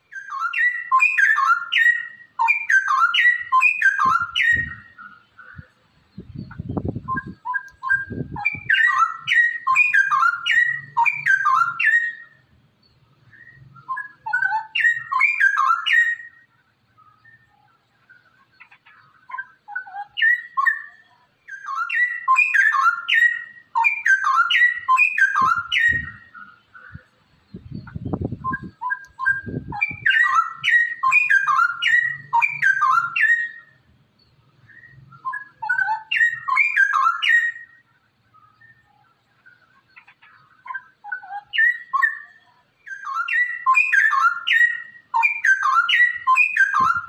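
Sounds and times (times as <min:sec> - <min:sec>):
bird singing whistled notes: 0:00.0 - 0:47.0.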